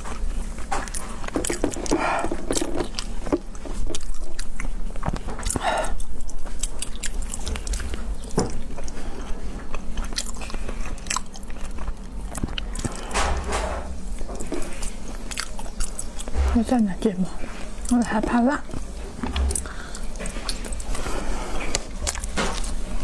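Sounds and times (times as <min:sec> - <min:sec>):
chewing raw fish: 0:00.0 - 0:16.7, 0:18.7 - 0:23.0.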